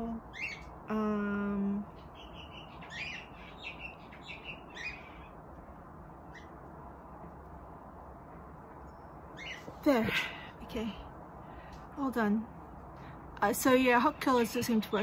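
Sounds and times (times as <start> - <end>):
birds chirping: 0.0 - 7.4, 8.0 - 15.0
faint background noise: 0.0 - 15.0.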